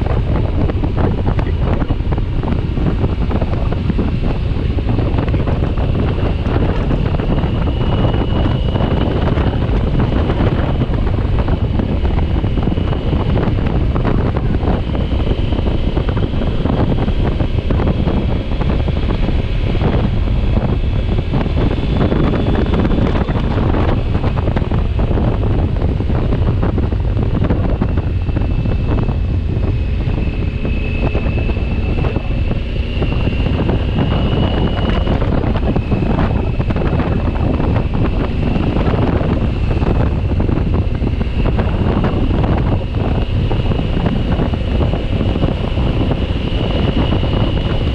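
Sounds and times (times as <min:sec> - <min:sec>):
motorcycle engine and road rumble: 0:00.0 - 0:47.9
wind buffeting microphone: 0:00.0 - 0:47.9
faint high whine: 0:00.4 - 0:47.9.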